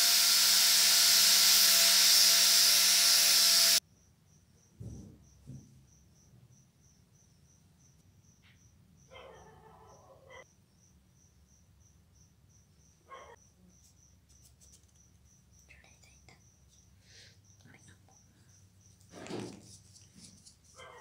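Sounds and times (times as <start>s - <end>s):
cricket chirping: 3.8s - 21.0s.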